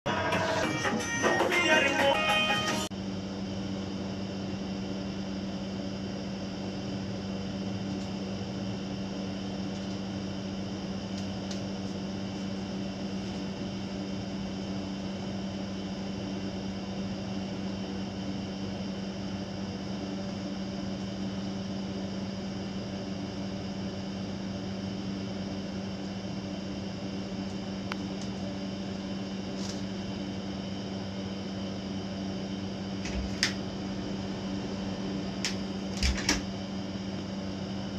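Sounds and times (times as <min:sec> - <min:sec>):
steady mechanical hum: 0:00.1 - 0:37.9.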